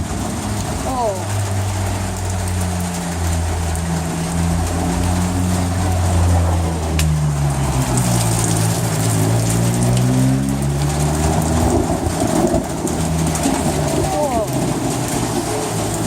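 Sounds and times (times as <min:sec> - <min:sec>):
engine humming low: 0:00.0 - 0:16.0
steady rain: 0:00.0 - 0:16.0.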